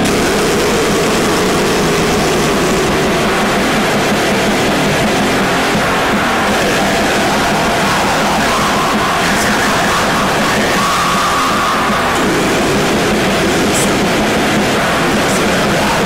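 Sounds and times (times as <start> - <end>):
harsh distorted metal noise: 0.0 - 16.0.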